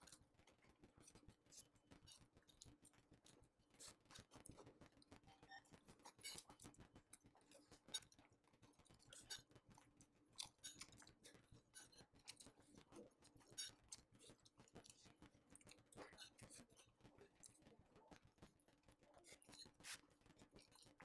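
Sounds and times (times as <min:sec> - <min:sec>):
faint close chewing: 0:00.0 - 0:21.0.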